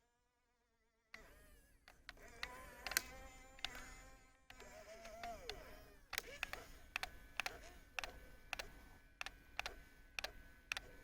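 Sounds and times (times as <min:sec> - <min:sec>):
sharp mechanical clicks: 0:01.2 - 0:11.0
small electric motor whining: 0:01.2 - 0:11.0.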